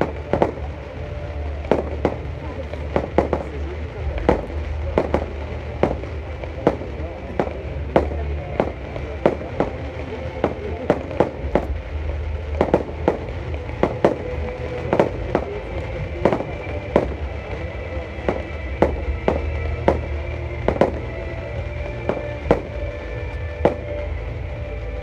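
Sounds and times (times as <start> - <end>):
fireworks bursting with sharp bangs: 0.0 - 25.0
low rumble: 0.0 - 25.0.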